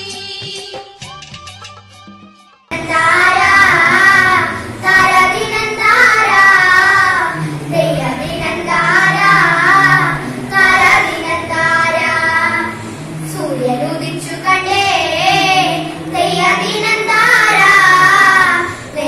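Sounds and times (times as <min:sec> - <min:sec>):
girls singing into microphones: 0:02.7 - 0:19.0.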